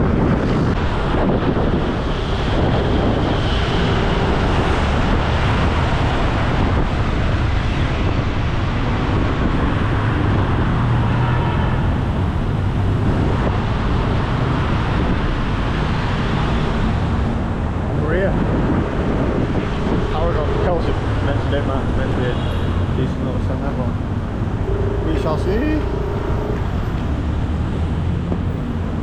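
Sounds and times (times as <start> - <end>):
traffic noise: 0.0 - 29.0
wind rushing on microphone: 0.0 - 29.0
vehicle engine: 1.9 - 29.0.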